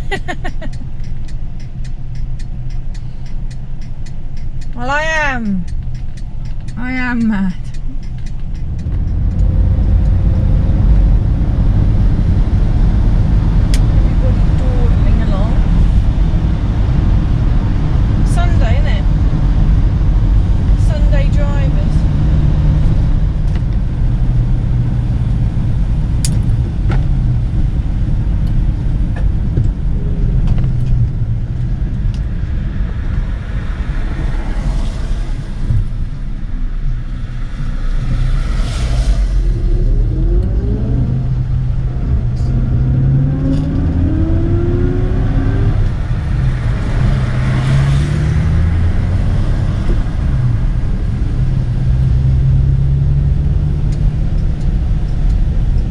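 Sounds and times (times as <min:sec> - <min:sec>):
car engine running: 0:00.0 - 0:55.9
road noise: 0:00.0 - 0:55.9.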